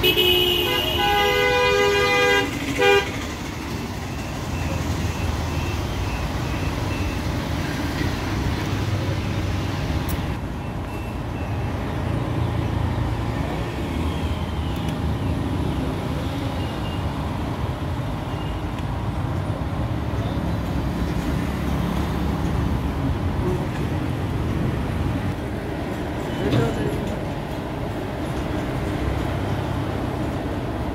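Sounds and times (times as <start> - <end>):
road traffic rumble: 0.0 - 30.9.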